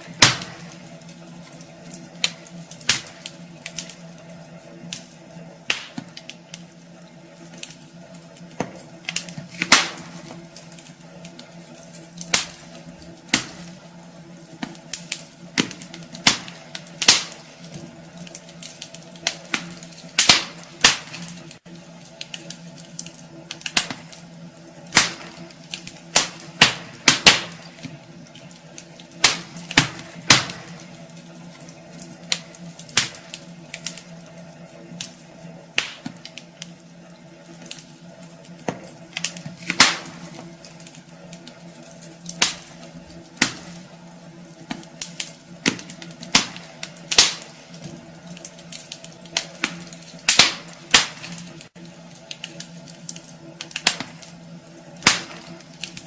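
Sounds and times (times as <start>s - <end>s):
low hiss of fire: 0.0s - 56.0s
wood fire crackling and popping: 0.0s - 56.0s.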